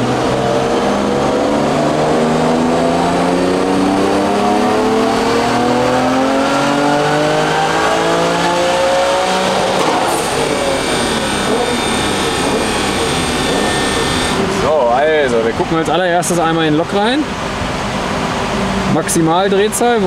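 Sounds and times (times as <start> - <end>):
car engine revving at full throttle: 0.0 - 20.0.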